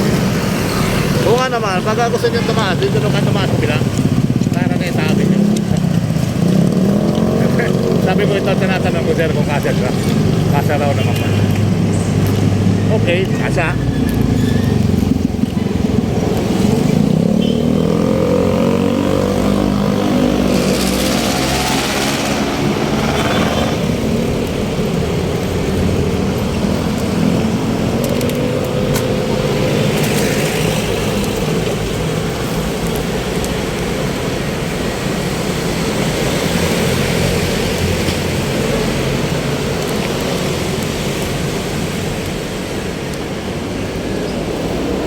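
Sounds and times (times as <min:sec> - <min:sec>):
road traffic: 0:00.0 - 0:45.0
vehicle engine hum: 0:00.0 - 0:45.0.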